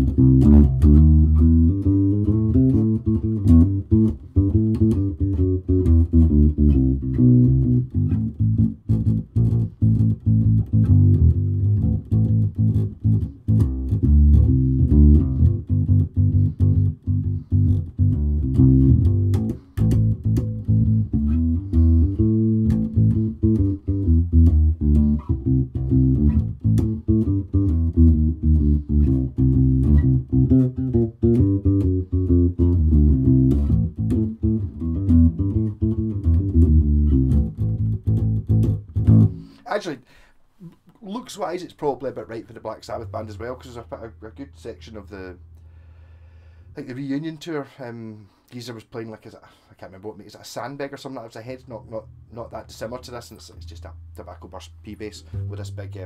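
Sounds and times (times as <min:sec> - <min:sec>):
electric bass plucked notes: 0:00.0 - 0:39.6, 0:42.1 - 0:46.1, 0:51.5 - 0:56.0.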